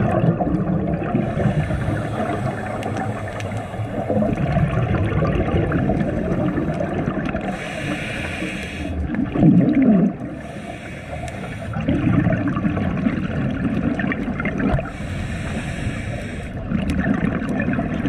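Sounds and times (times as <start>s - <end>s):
underwater bubbles gurgling: 0.0s - 18.0s.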